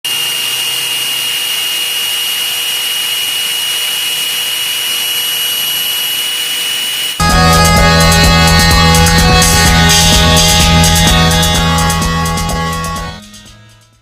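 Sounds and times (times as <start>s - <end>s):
electric drill whining: 0.1s - 13.2s.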